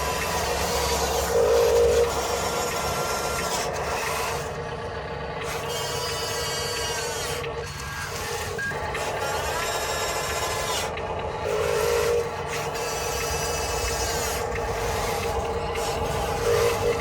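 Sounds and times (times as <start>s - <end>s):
electric motors whining: 0.0s - 17.0s
steady hum: 0.0s - 17.0s.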